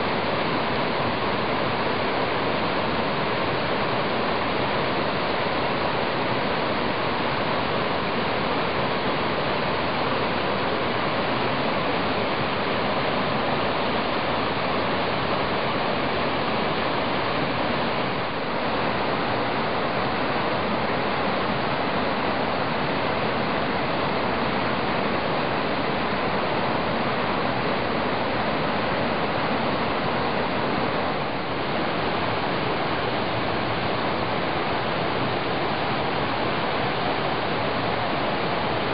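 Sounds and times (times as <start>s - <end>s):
creek water rushing: 0.0s - 38.9s.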